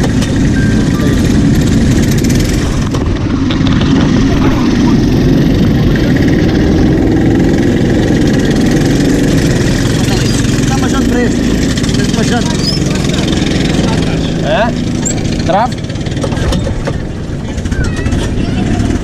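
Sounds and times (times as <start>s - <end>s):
go-kart engines droning: 0.0s - 19.0s.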